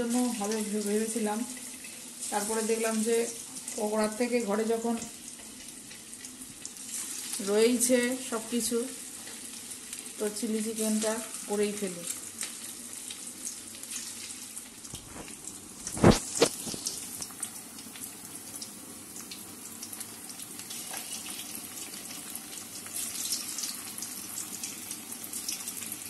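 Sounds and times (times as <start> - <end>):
chicken deep-frying in hot oil: 0.0 - 26.0.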